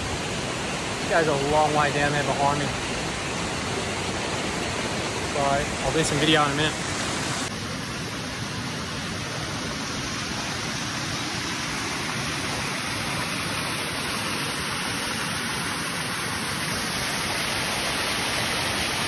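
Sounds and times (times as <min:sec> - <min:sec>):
waterfall rushing and splashing: 0:00.0 - 0:19.0.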